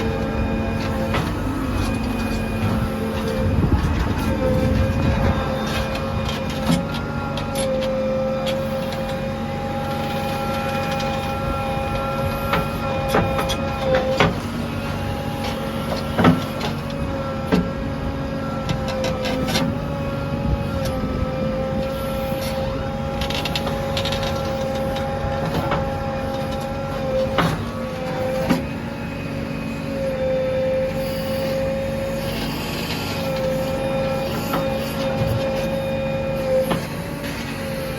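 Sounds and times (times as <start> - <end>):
diesel engine under load: 0.0 - 37.9
hydraulic whine: 0.0 - 37.9.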